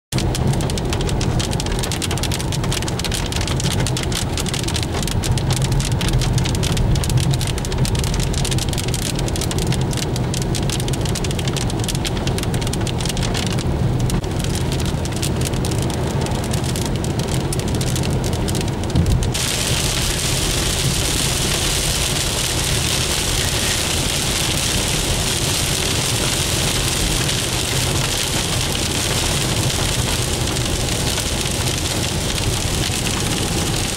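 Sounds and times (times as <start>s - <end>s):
rain falling: 0.2s - 33.9s.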